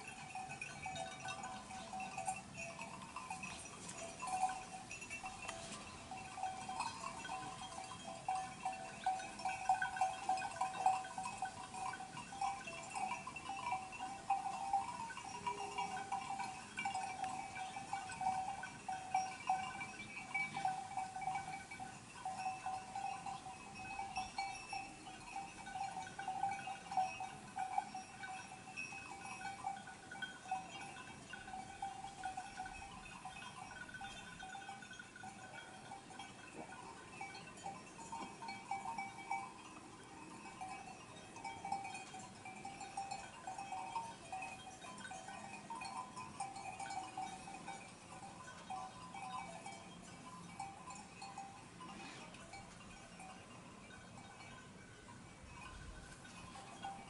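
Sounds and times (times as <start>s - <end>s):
sheep bells tinkling: 0.0s - 57.0s.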